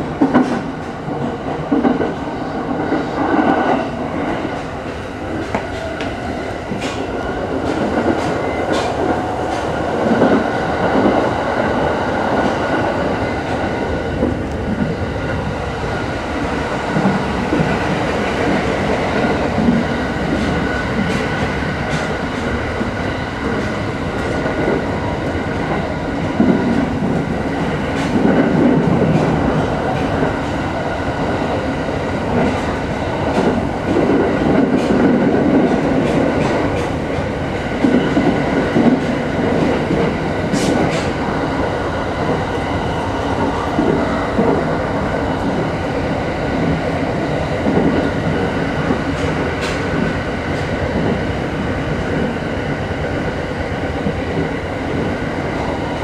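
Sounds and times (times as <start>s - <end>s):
rail joint clicks: 0.0s - 56.0s
train wheels rumbling on rails: 0.0s - 56.0s.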